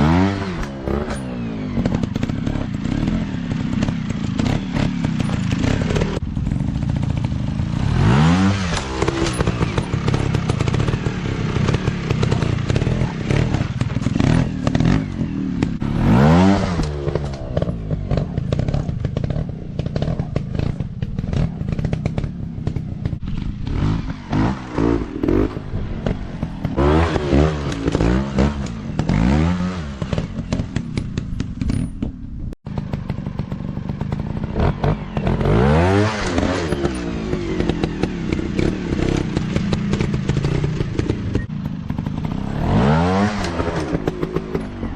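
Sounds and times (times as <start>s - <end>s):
dirt bike engines revving: 0.0s - 31.8s, 32.7s - 44.9s
bikes clattering over rough ground: 0.2s - 7.8s, 8.5s - 44.9s.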